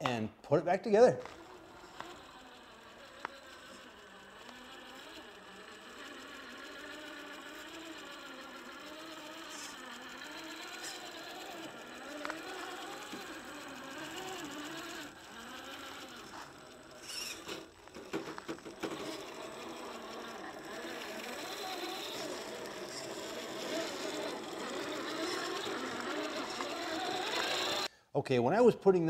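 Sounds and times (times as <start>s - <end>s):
toy car motor whining: 1.0s - 27.9s.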